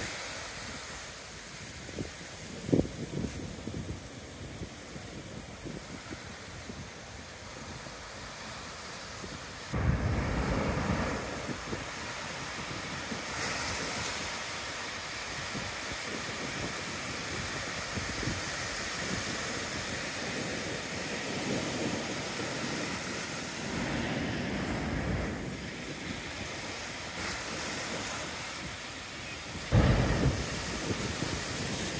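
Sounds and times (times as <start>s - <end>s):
waves breaking on sand: 0.0s - 31.9s
wind buffeting microphone: 0.0s - 31.9s.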